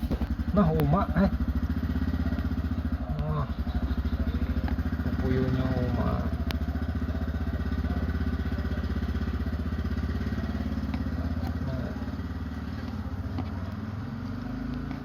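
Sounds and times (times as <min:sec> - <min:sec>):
motorcycle engine puttering: 0:00.0 - 0:15.0.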